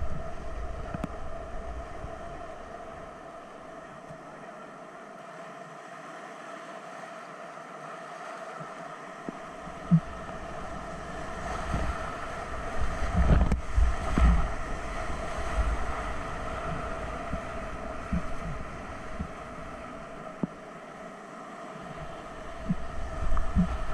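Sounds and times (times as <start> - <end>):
waves splashing against microphone: 0.0 - 23.9.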